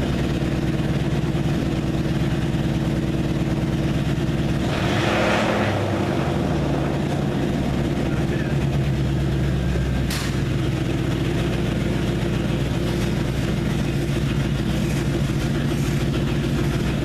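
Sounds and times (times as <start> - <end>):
loud car engine with throttle blip: 0.0 - 17.0.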